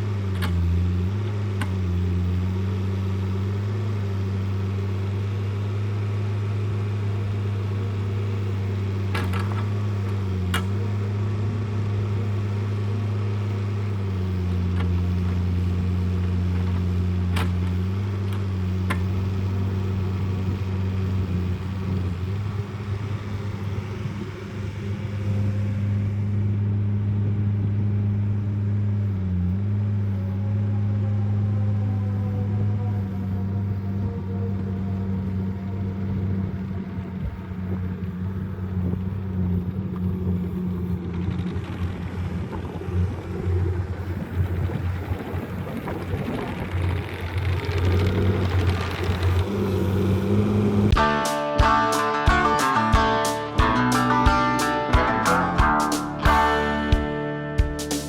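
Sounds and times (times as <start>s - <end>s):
engine running with low hum: 0.0s - 58.0s.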